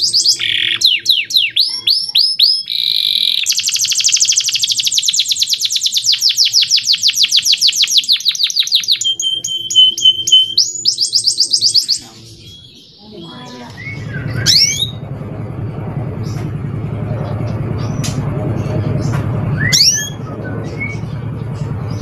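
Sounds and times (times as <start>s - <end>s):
canary singing trills: 0.0s - 15.2s, 16.1s - 22.0s.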